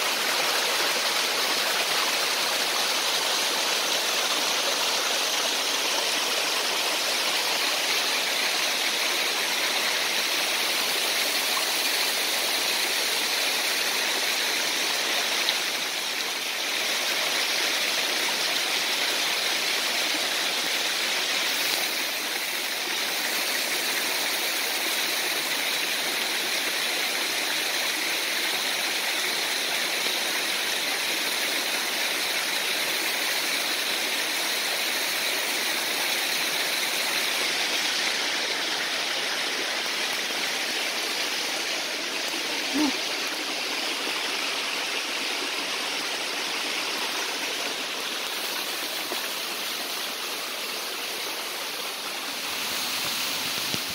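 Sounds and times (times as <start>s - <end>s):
waterfall pouring into a pool: 0.0s - 53.9s.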